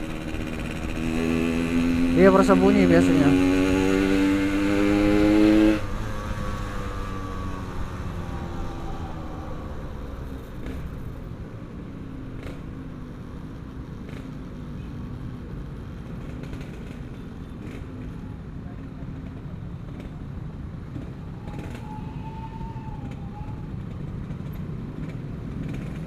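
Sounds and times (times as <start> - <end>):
motorcycle engine: 0.0 - 26.0.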